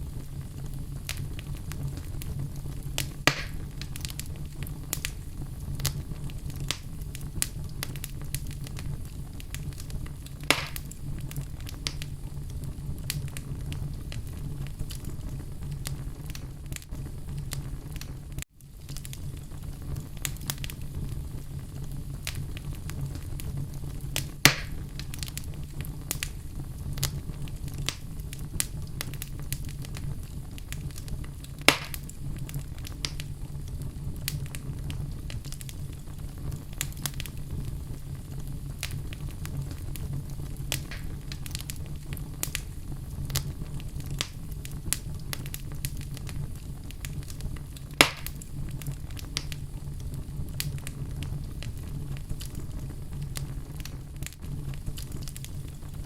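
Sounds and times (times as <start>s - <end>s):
fire crackling: 0.0s - 56.0s
sharp fire pops: 0.0s - 56.0s.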